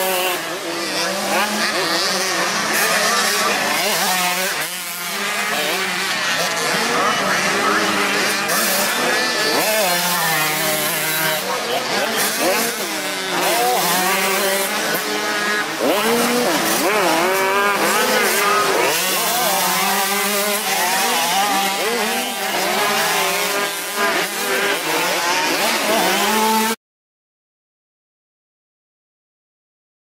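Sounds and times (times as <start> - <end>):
motorbike engines revving: 0.0 - 26.8.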